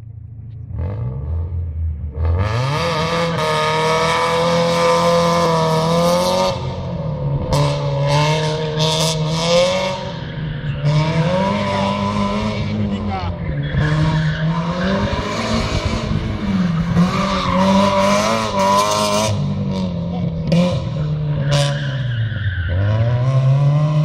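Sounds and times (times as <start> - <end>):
rally car engine revving: 0.5 - 24.0.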